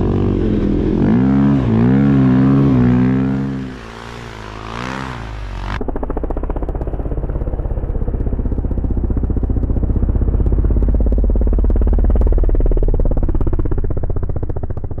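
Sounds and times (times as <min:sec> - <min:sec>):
snow bike engine passing by: 0:00.0 - 0:15.0.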